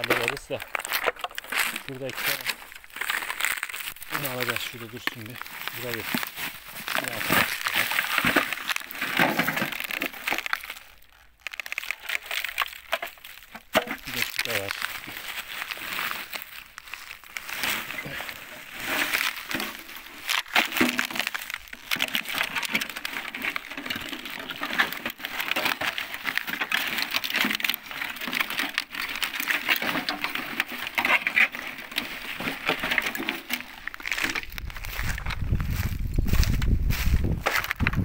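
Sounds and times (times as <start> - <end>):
dry brush rustling and crackling: 0.0 - 38.0.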